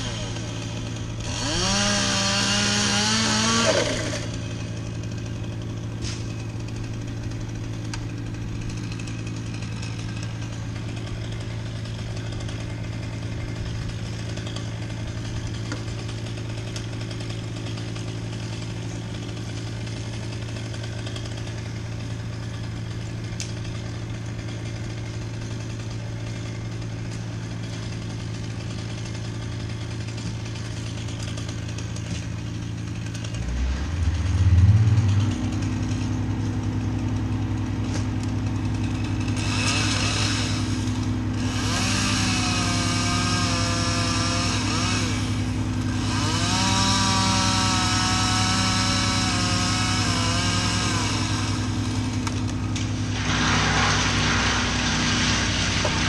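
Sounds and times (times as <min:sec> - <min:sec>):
chainsaw revving: 0:00.0 - 0:56.0
small engine idling: 0:03.5 - 0:56.0.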